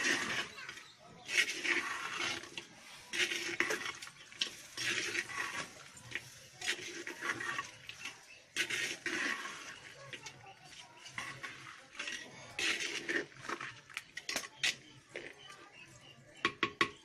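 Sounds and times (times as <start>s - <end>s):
metal ladle scraping clay pot: 0.0s - 17.0s.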